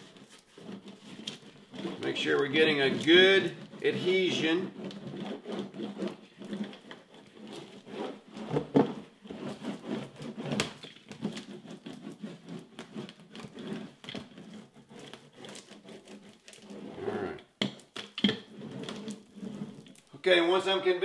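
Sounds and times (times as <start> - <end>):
rubber roller rolling over paper: 0.0 - 17.5, 18.2 - 20.1.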